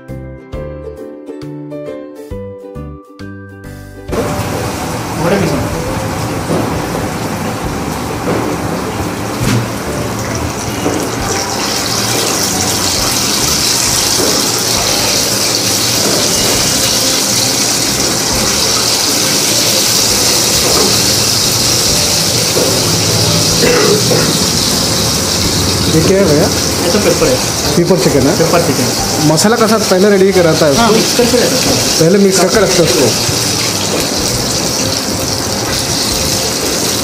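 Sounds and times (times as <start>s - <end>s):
chicken sizzling in deep fryer: 4.1s - 37.0s.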